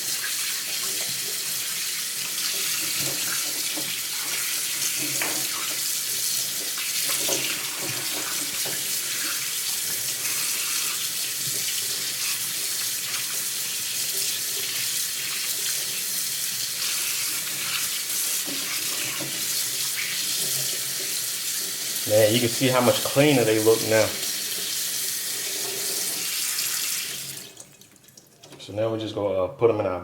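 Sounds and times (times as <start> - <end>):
kitchen faucet running into sink: 0.0 - 28.7.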